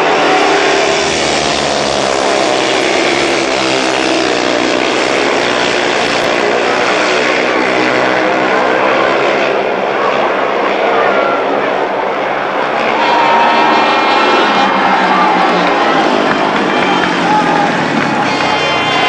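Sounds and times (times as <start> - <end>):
motorcycles racing: 0.0 - 19.0.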